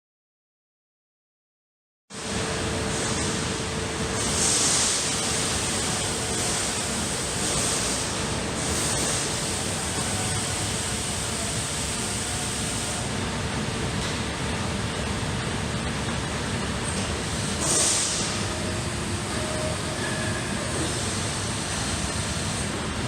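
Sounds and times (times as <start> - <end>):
laser cutter hiss and hum: 2.2 - 23.0.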